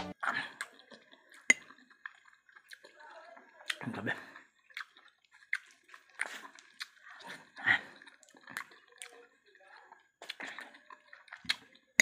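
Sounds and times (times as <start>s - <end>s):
wet chewing and lip-smacking: 0.2s - 12.0s.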